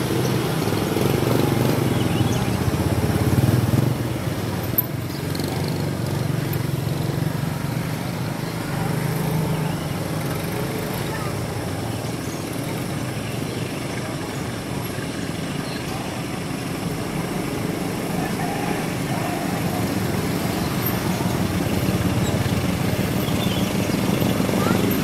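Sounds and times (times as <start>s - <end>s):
diesel locomotive engine hum: 0.0s - 25.0s.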